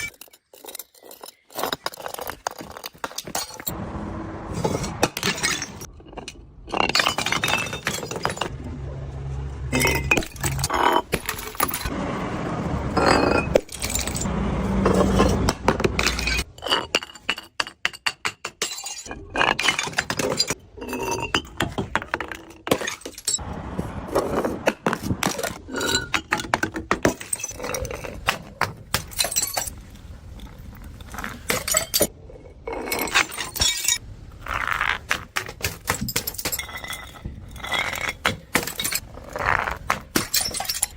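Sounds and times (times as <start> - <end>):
glass bottles smashing: 0.0 - 3.8, 4.6 - 8.5, 9.7 - 11.9, 13.0 - 23.4, 24.7 - 32.1, 32.7 - 40.9
glass shards clinking: 0.0 - 3.8, 4.6 - 8.5, 9.7 - 11.9, 13.0 - 23.4, 25.2 - 29.8, 30.4 - 32.1, 32.7 - 34.6, 35.7 - 40.9.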